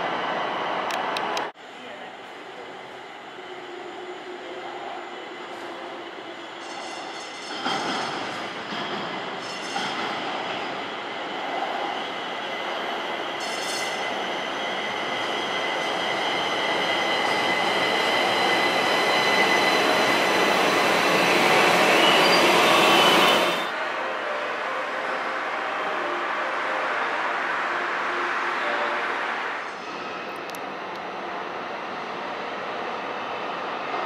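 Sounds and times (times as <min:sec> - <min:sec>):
train running noise: 0:00.0 - 0:34.0.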